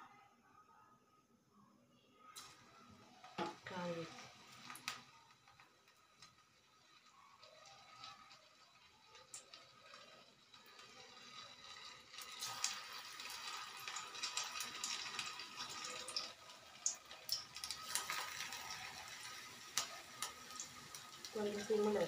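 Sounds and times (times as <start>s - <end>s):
batter sizzling in hot oil: 2.4s - 22.0s
oil crackling: 2.4s - 22.0s.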